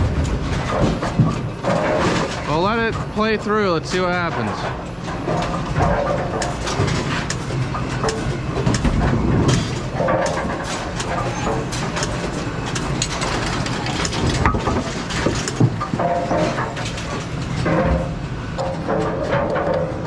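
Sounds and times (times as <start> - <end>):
motor hum: 0.0 - 18.3
machine parts clanking and rattling: 0.0 - 20.0.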